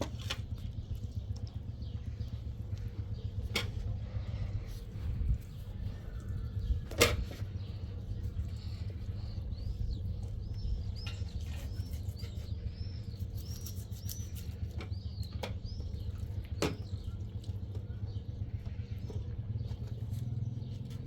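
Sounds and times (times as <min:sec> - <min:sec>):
steady low rumble: 0:00.0 - 0:21.0
small bird chirping: 0:00.2 - 0:21.0.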